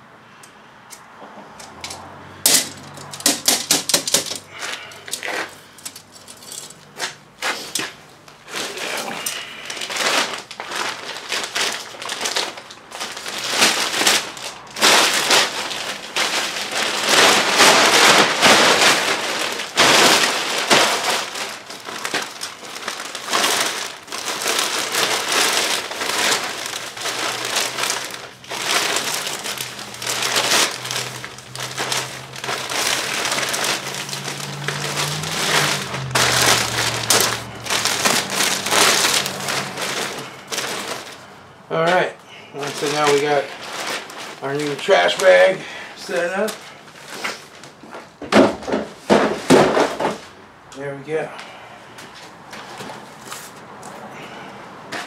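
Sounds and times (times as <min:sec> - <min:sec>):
plastic bag rustling: 0:01.4 - 0:51.2, 0:52.0 - 0:55.0.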